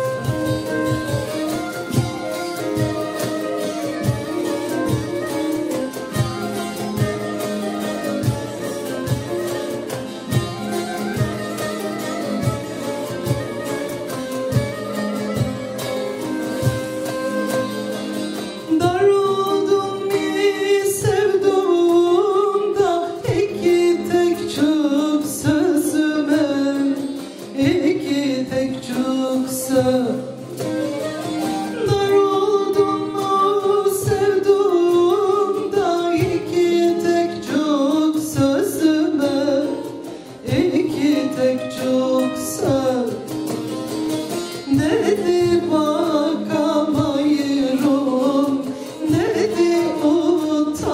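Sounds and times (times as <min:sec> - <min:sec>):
person singing: 0:00.0 - 0:43.7, 0:44.4 - 0:50.9
plucked string instruments: 0:00.0 - 0:50.9.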